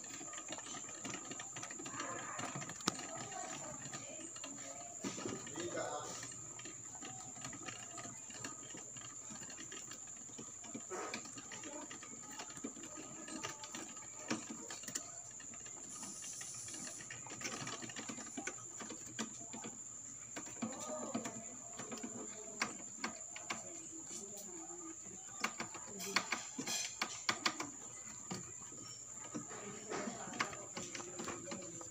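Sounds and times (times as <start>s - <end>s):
rabbit chewing dry pellets: 0.0s - 31.9s.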